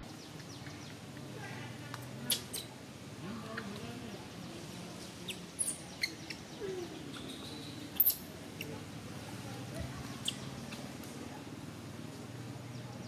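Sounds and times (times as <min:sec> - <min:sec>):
faint low murmur: 0:00.0 - 0:13.0.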